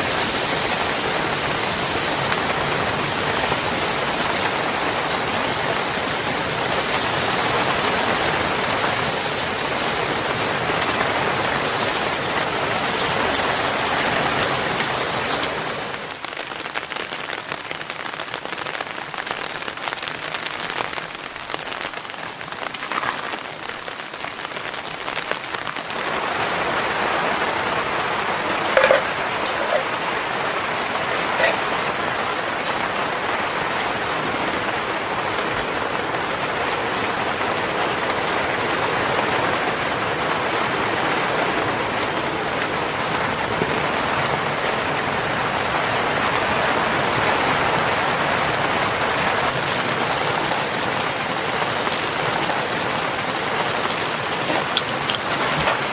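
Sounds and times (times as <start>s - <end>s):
steady rainfall hiss: 0.0s - 55.9s.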